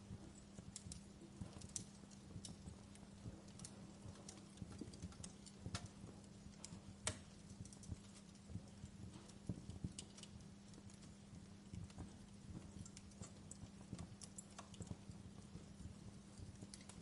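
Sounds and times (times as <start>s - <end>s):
faint low hum: 0.0s - 17.0s
fire crackling: 0.0s - 17.0s.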